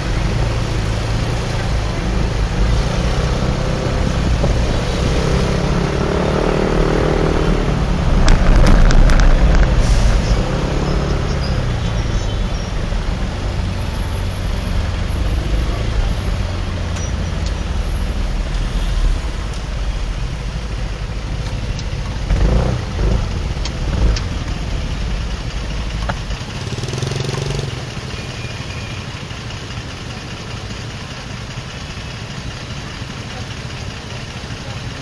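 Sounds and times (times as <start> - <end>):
motorcycle engine rumble: 0.0 - 35.0
street traffic: 0.0 - 35.0.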